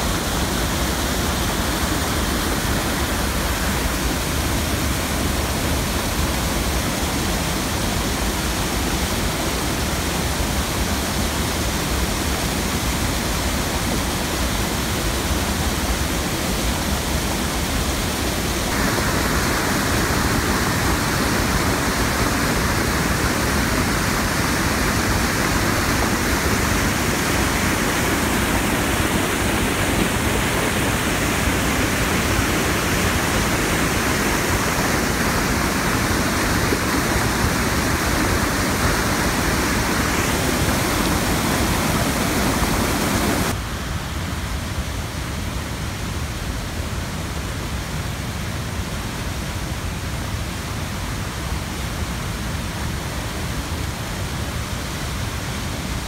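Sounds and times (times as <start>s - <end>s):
water rushing over a dam: 0.0s - 56.0s.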